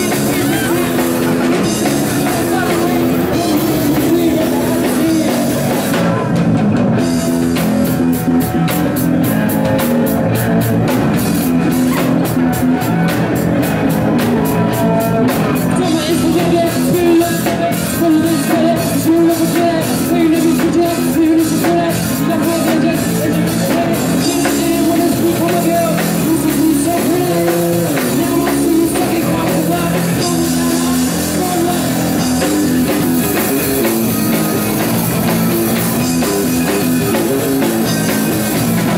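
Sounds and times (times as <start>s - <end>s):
punk rock band playing: 0.0s - 38.9s.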